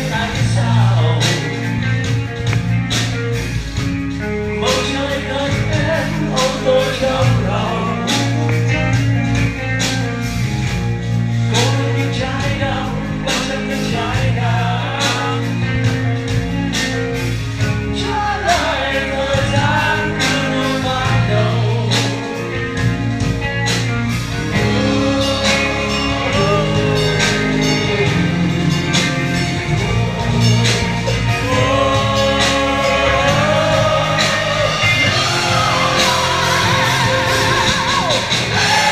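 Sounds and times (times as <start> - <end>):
lead singer: 0.0 - 38.9
live rock band playing: 0.0 - 38.9.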